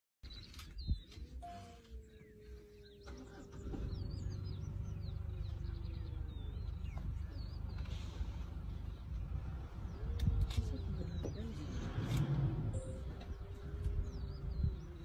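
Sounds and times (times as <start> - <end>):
birds chirping: 0.2 - 15.0
vehicle engine idling: 1.4 - 15.0.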